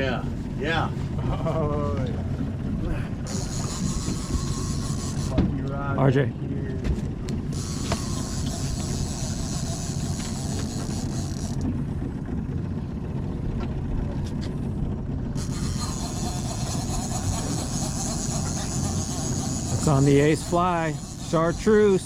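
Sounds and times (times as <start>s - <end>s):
boat motor rumbling: 0.0s - 22.0s
water noise: 0.0s - 22.0s
wind: 0.0s - 22.0s.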